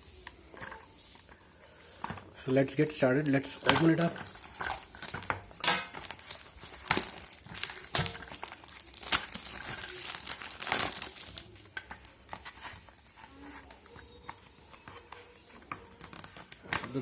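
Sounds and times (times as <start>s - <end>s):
packaging crinkling and tearing: 3.0s - 17.0s.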